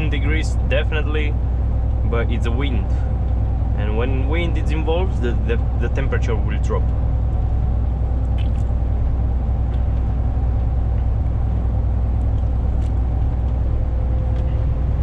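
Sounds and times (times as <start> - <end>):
diesel truck engine running: 0.0 - 15.0
faint steady hum: 0.0 - 15.0.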